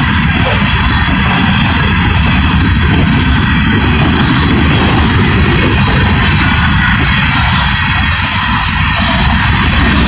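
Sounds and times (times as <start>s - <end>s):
freight train cars rolling: 0.0s - 10.0s.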